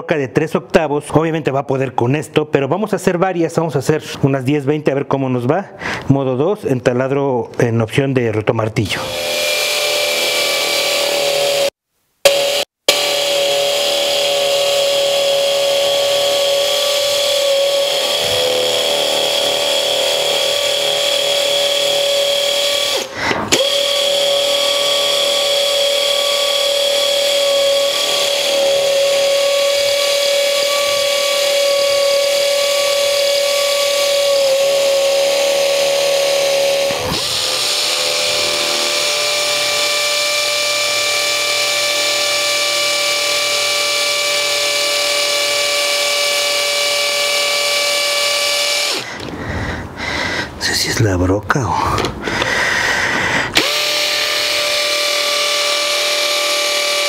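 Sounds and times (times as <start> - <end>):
hammer drill whining: 9.0 - 50.5, 52.0 - 57.0.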